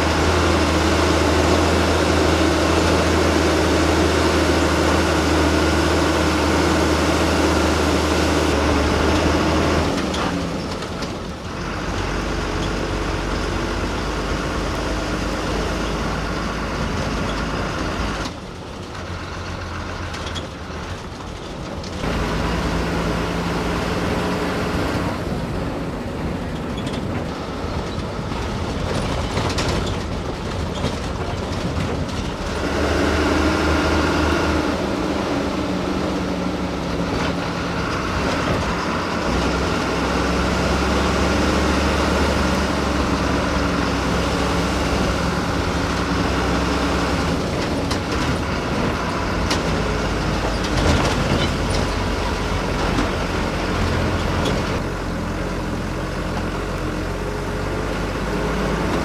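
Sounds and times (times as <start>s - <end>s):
bus diesel engine running: 0.0s - 59.0s
road and body noise: 0.0s - 59.0s.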